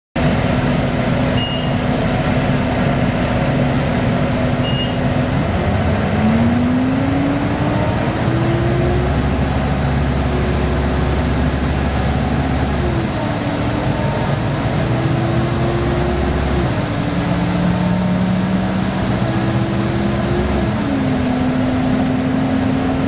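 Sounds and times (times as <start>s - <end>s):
bus engine and transmission running: 0.2s - 23.0s.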